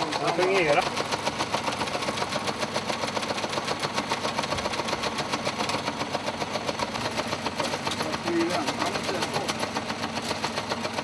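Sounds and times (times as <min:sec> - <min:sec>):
teleprinter clattering: 0:00.0 - 0:11.0.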